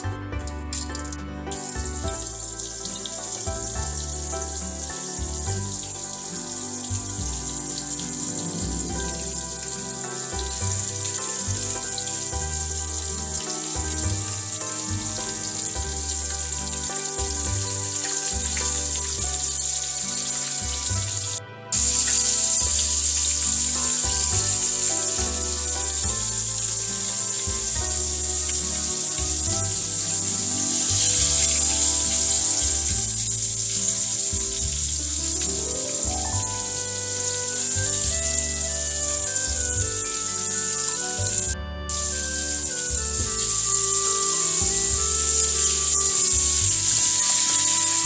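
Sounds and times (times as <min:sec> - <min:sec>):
background music: 0:00.0 - 0:48.0
fish frying in sizzling oil: 0:00.8 - 0:48.0.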